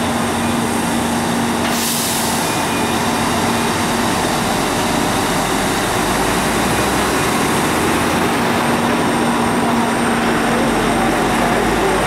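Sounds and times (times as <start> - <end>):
truck engine running: 0.0 - 12.0
tyres hissing on wet road: 0.4 - 12.0.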